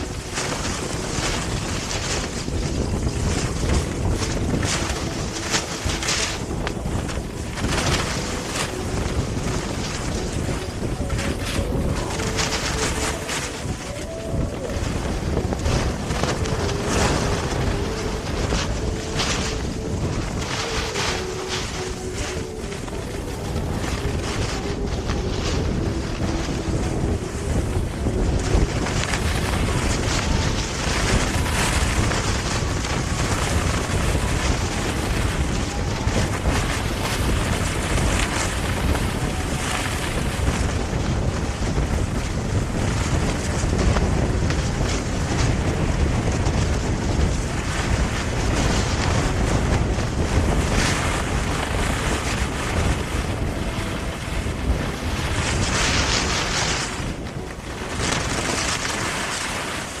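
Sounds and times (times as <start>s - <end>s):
wind buffeting microphone: 0.0s - 60.0s.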